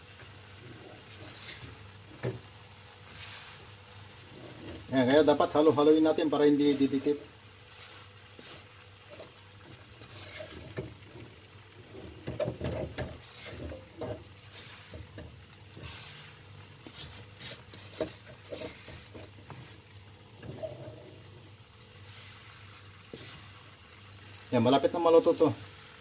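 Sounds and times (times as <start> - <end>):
spatula scraping a wok: 0.2 - 23.8.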